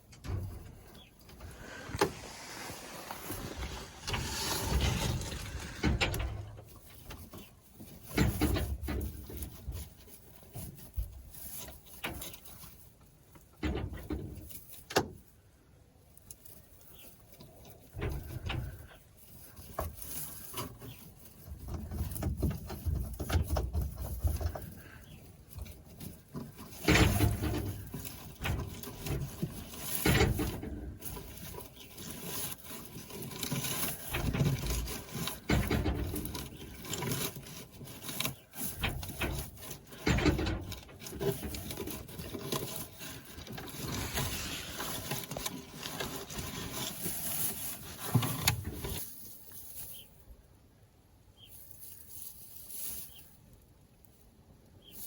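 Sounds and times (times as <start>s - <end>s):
things knocking and scraping: 0.0s - 15.2s, 16.4s - 50.1s.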